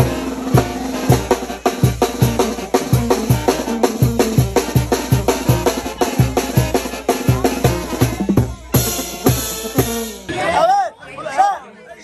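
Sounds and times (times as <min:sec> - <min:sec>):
bass line: 0:00.0 - 0:10.3
music with driving drum beat: 0:00.0 - 0:10.3.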